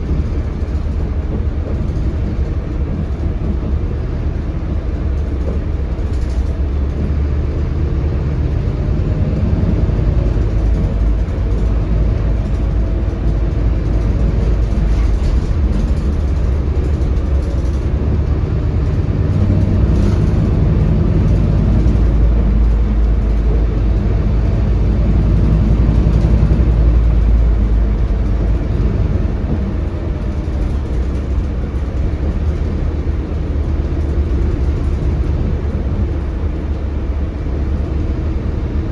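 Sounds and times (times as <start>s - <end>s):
bus diesel engine drone: 0.0s - 38.9s.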